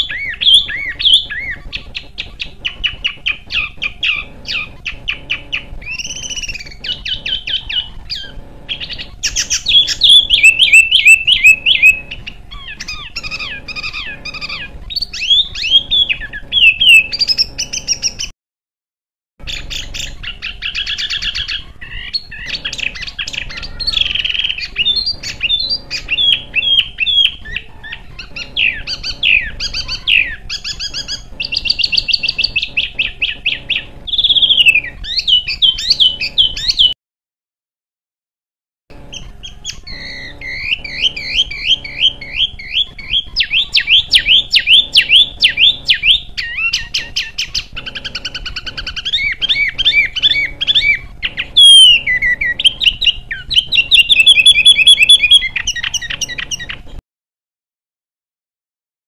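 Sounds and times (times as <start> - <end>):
songbird chirping and whistling: 0.0 - 18.3, 19.4 - 37.0, 38.9 - 57.0.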